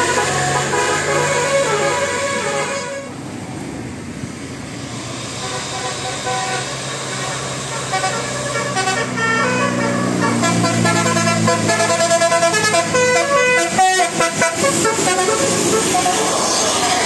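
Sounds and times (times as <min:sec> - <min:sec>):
musical air horn tune: 0:00.0 - 0:03.1, 0:05.4 - 0:17.0
bus engine hum: 0:00.0 - 0:17.0.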